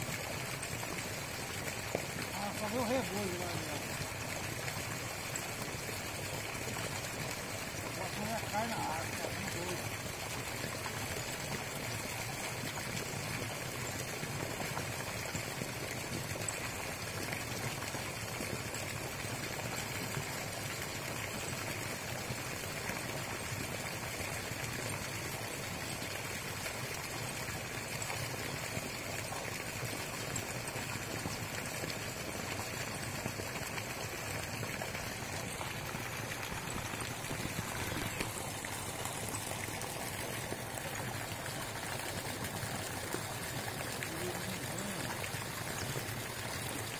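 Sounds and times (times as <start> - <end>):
water splashing into pond: 0.0 - 46.9.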